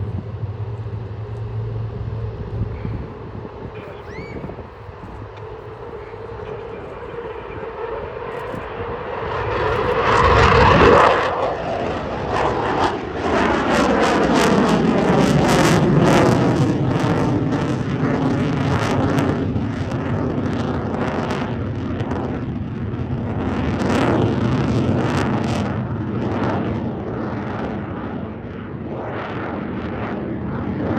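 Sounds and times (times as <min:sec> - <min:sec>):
jet engine roar: 0:00.0 - 0:30.9.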